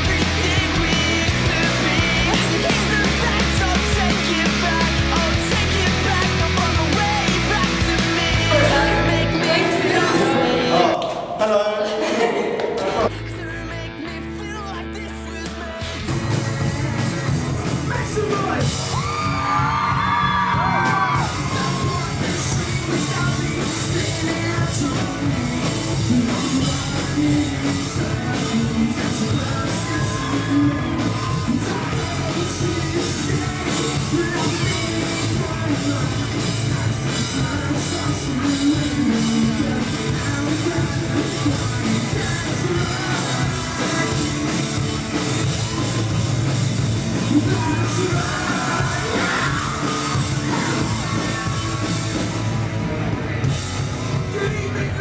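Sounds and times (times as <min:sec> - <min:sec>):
live rock band playing: 0:00.0 - 0:11.2, 0:12.5 - 0:55.0
person singing: 0:00.0 - 0:46.2, 0:47.0 - 0:52.6, 0:53.4 - 0:55.0.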